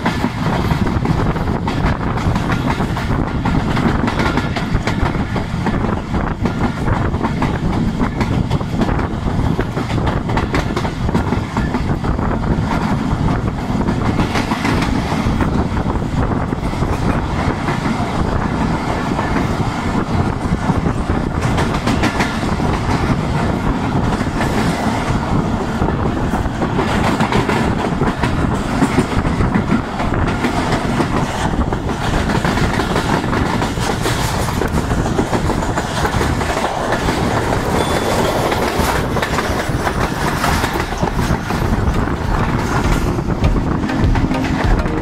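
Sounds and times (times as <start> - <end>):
wheels clacking over rail joints: 0.0 - 16.0, 16.7 - 45.0
train wheels rumbling on track: 0.0 - 45.0.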